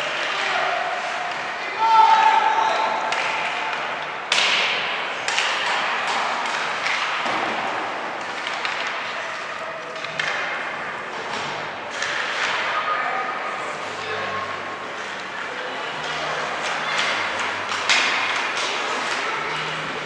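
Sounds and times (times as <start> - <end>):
background murmur: 0.0 - 20.0.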